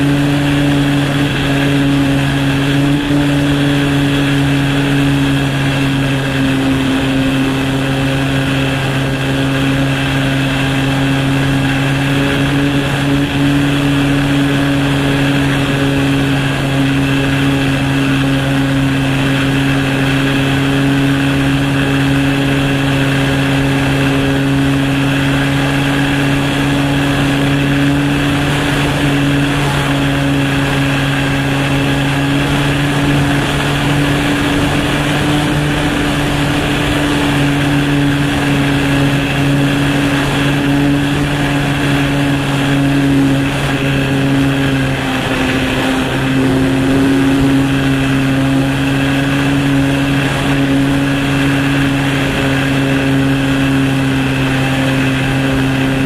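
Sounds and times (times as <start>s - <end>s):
small airplane engine in flight: 0.0s - 56.0s
wind rushing over microphone: 0.0s - 56.0s.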